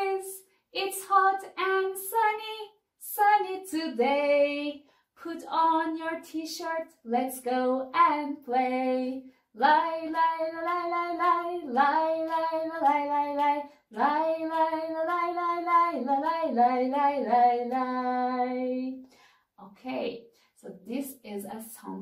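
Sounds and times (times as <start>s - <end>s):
person singing children's song: 0.0s - 19.0s.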